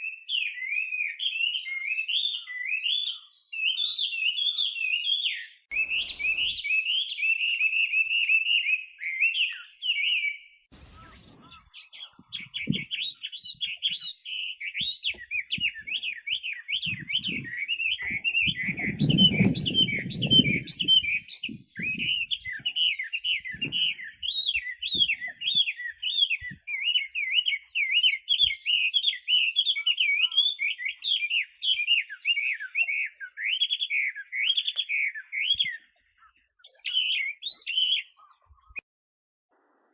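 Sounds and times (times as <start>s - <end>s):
bird whistling song: 0.0s - 38.8s.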